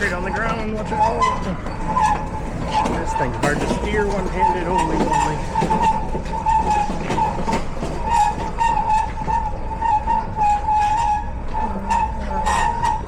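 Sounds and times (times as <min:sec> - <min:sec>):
cart wheels rumbling on concrete: 0:00.0 - 0:13.0.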